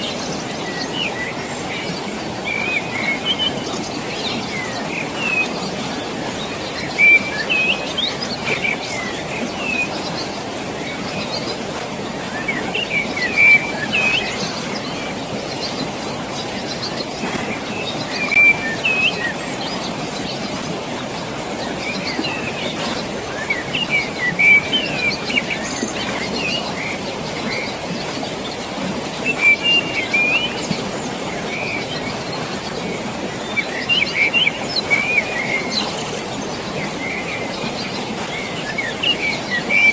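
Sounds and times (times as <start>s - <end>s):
rushing water: 0.0s - 39.9s
small birds chirping: 0.0s - 39.9s.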